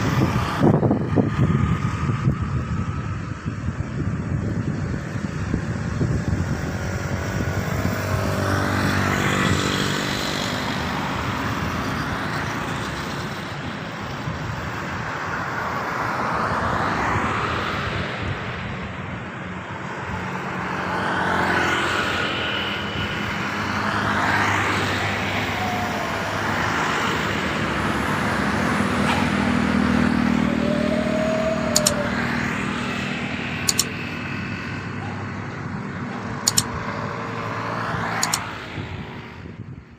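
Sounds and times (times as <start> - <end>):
engine hum: 0.0 - 39.9
vehicles passing: 0.0 - 39.9.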